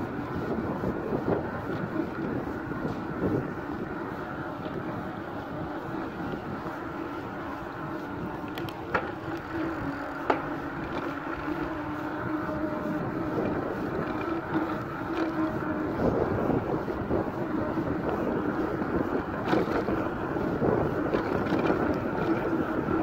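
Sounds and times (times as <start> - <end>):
bike tyres rolling on tarmac: 0.0 - 23.0
wind on microphone: 0.0 - 23.0.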